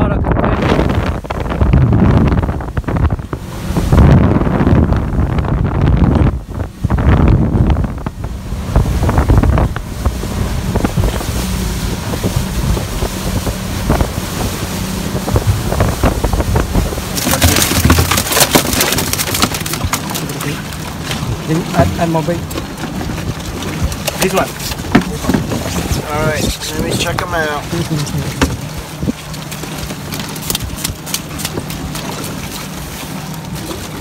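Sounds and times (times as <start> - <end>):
motorboat humming: 0.0 - 34.0
wind buffeting microphone: 0.0 - 34.0.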